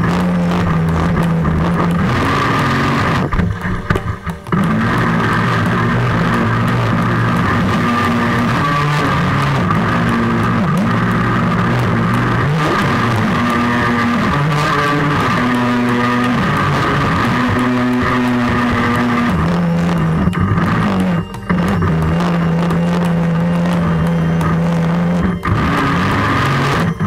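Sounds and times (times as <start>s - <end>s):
sustained low music notes: 0.0s - 27.0s.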